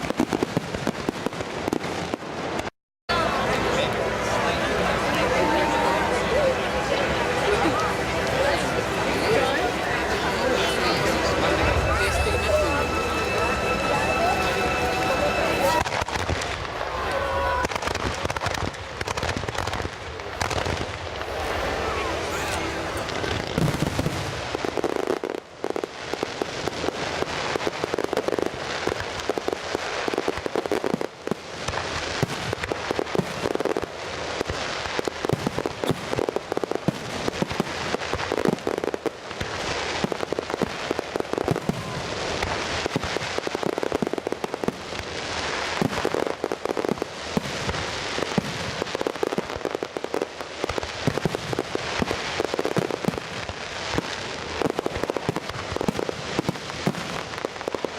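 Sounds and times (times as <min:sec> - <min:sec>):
fireworks crackling and banging: 0:00.0 - 0:57.9.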